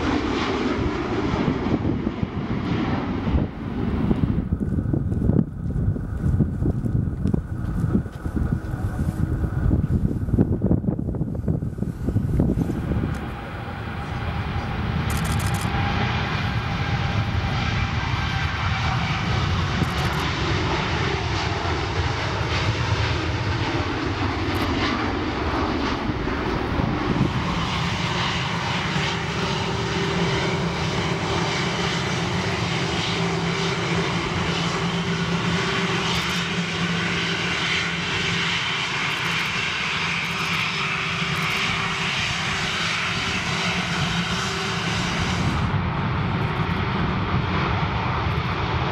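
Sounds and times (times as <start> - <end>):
jet engines roaring: 0.0 - 48.9
steady whine: 0.0 - 48.9.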